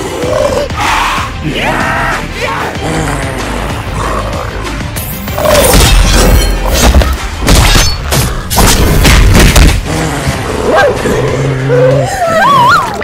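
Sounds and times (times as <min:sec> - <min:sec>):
dramatic background music: 0:00.0 - 0:13.0.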